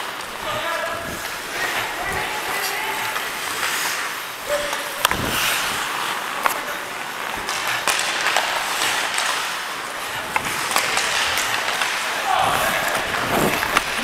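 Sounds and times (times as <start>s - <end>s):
skate blades scraping ice: 0.0s - 14.0s
hockey stick and puck clicks: 1.2s - 14.0s.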